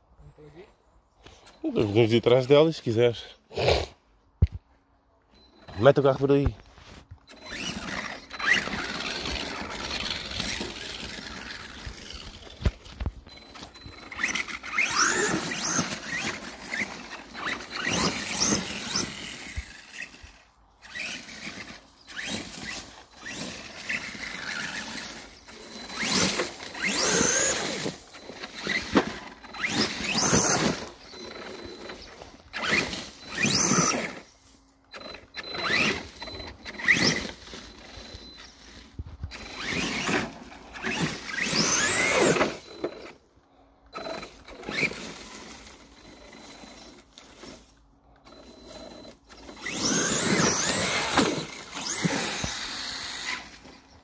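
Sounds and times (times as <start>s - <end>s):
toy truck electric motor whining: 6.8s - 54.0s.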